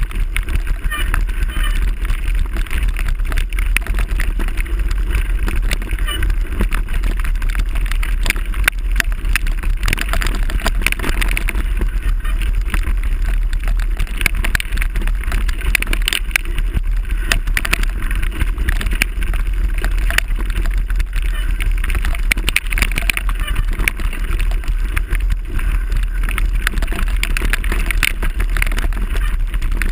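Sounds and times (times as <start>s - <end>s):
bike tyres rumbling on gravel: 0.0s - 29.9s
rattling clicks from bike: 0.0s - 29.9s.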